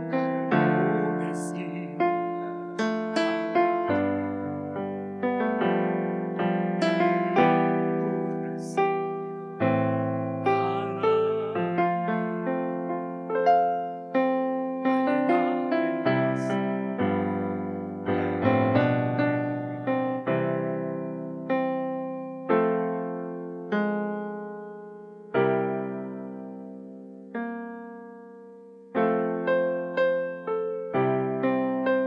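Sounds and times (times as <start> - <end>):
piano playing slow chords: 0.0 - 32.0.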